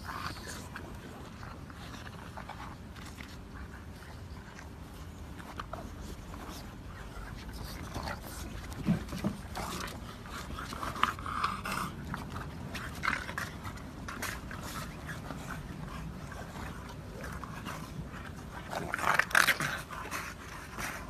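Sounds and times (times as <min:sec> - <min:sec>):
dogs play-fighting: 0:00.0 - 0:21.0.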